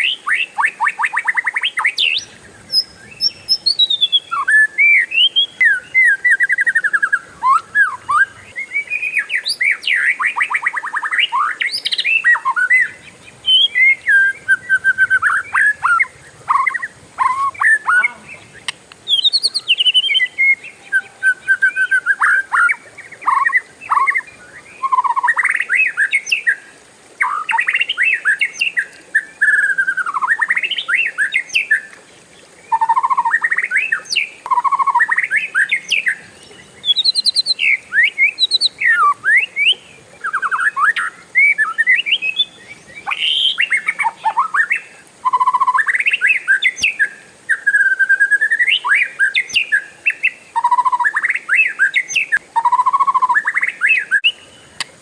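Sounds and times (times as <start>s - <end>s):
bird singing whistles and trills: 0.0s - 54.9s.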